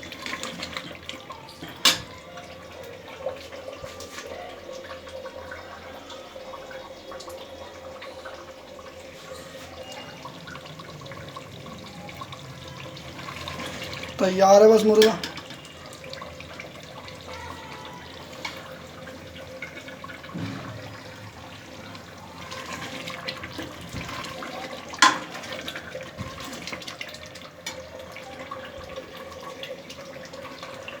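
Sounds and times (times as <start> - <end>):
watery liquid noise: 0.0 - 31.0.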